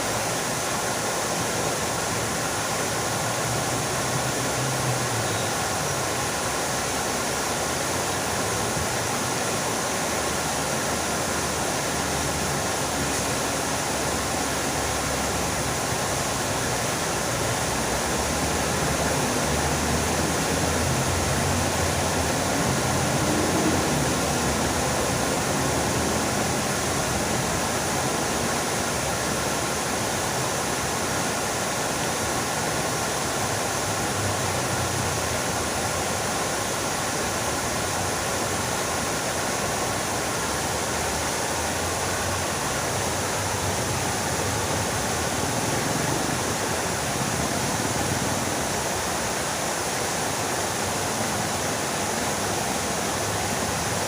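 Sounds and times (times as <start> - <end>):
water fountain splashing: 0.0 - 54.0.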